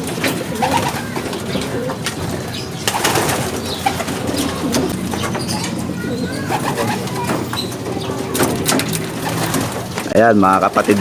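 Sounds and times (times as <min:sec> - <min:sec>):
pigeons cooing: 0:00.0 - 0:11.0
wings fluttering: 0:00.0 - 0:11.0.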